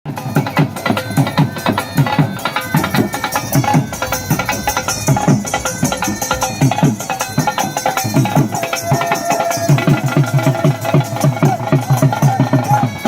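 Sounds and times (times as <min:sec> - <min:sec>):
hand drum fast rhythm: 0:00.1 - 0:13.0.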